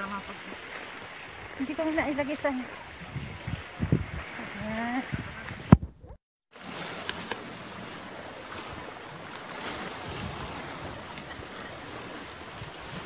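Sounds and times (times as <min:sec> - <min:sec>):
sea waves: 0:00.0 - 0:05.8, 0:06.5 - 0:13.0
wind: 0:00.0 - 0:13.0.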